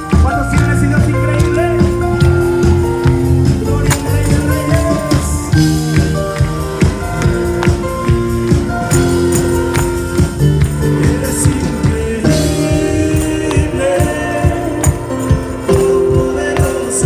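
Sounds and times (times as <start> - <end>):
live church band music: 0.0 - 17.0.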